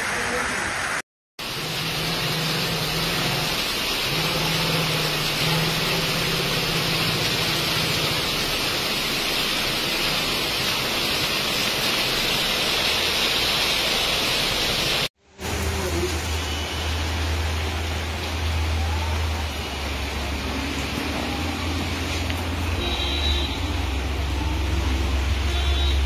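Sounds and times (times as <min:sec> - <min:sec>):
heavy rain on pavement: 0:00.0 - 0:26.0.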